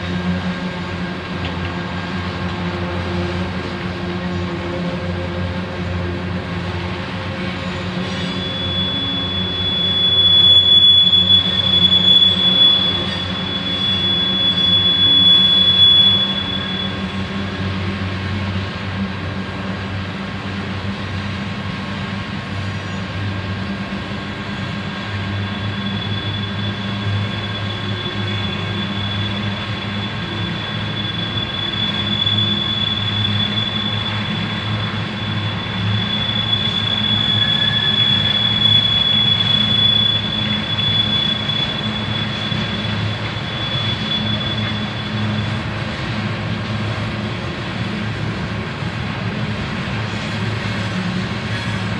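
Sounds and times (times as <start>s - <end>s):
freight train wheels rumbling: 0.0s - 51.9s
high wheel squeal: 0.0s - 51.9s.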